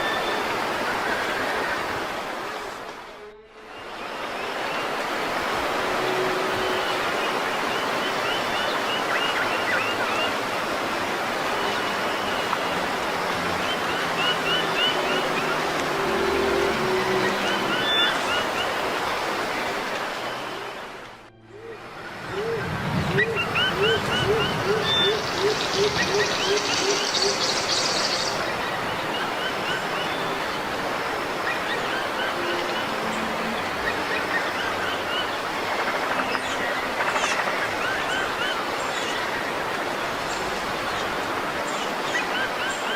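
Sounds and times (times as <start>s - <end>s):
steady rushing noise: 0.0s - 42.9s.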